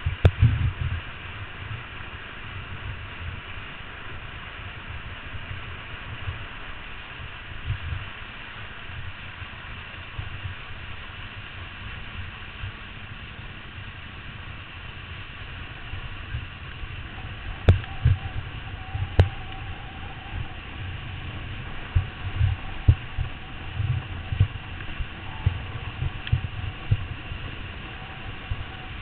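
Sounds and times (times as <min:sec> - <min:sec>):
rushing water and spray: 0:00.0 - 0:29.0
wind buffeting microphone: 0:00.0 - 0:29.0.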